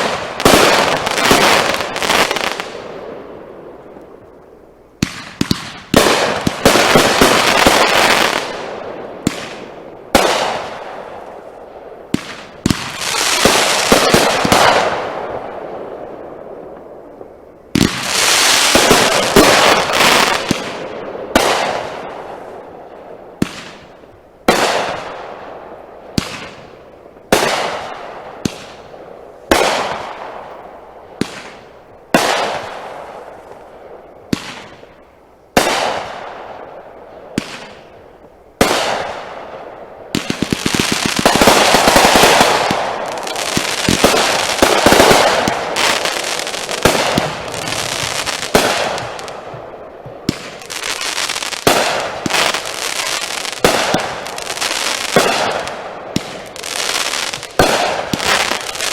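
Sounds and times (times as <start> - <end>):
fireworks bangs: 0.0 - 4.4, 5.0 - 58.9
fireworks crackling: 0.0 - 15.5, 16.7 - 36.5, 37.3 - 58.9.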